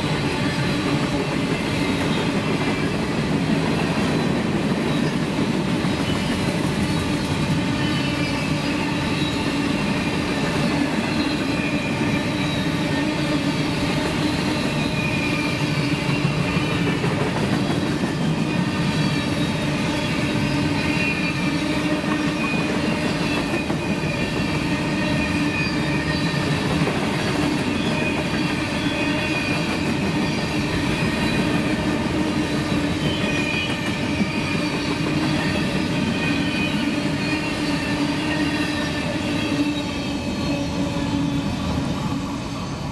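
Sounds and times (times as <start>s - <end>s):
steel wheels rumbling on rails: 0.0s - 42.9s
wheel squeal whine: 0.0s - 42.9s.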